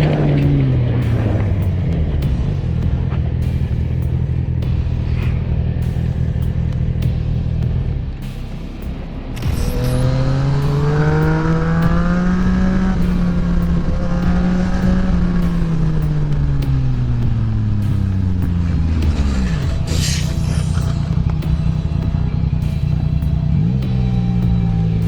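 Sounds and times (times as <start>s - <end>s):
motor vehicle engine: 0.0s - 25.0s.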